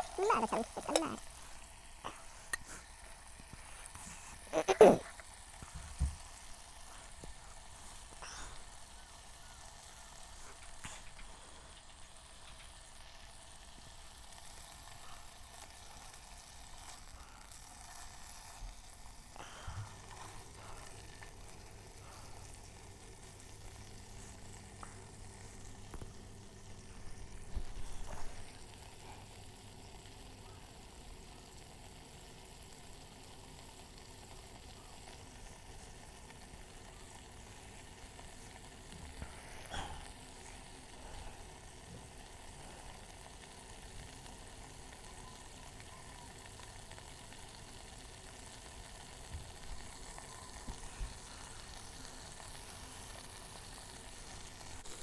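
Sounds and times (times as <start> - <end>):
bacon sizzling in a frying pan: 0.0 - 55.0.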